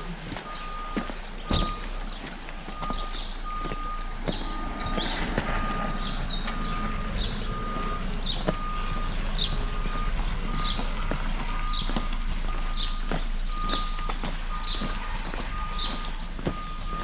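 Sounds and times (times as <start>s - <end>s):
songbirds singing: 0.0s - 17.0s
short steady beep: 0.6s - 6.1s, 6.7s - 17.0s.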